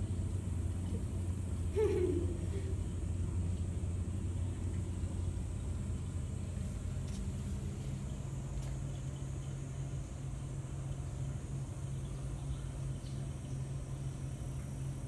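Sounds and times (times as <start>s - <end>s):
droning hum: 0.0s - 15.0s.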